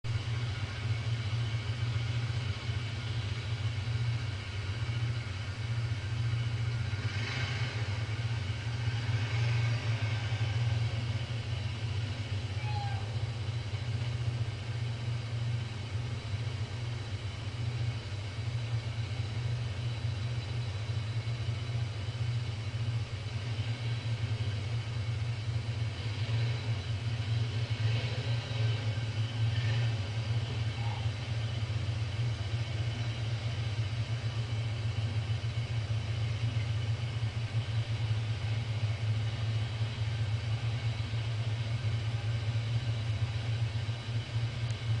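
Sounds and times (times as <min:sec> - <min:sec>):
atv engines running: 0:00.0 - 0:45.0.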